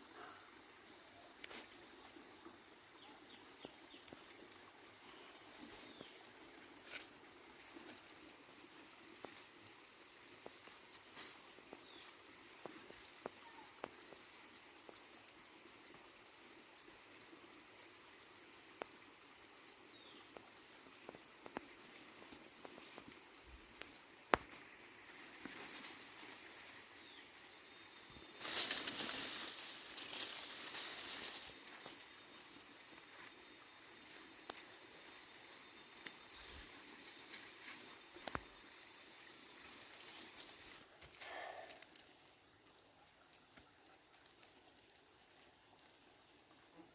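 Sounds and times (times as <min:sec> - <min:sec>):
insects rhythmic chirping: 0:00.0 - 0:46.9.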